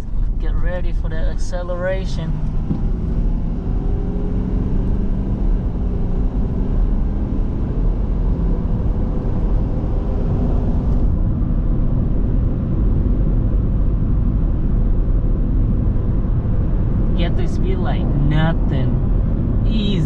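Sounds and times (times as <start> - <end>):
diesel truck engine accelerating: 0.0 - 20.0
road rumble: 0.0 - 20.0.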